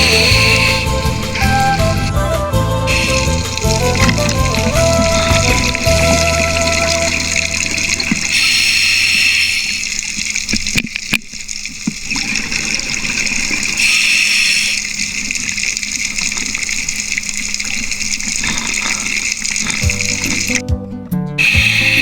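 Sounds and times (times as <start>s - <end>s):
underwater bubbles gushing: 0.0s - 2.1s, 2.9s - 20.6s, 21.4s - 22.0s
steady watery hiss: 0.0s - 20.6s, 21.4s - 22.0s.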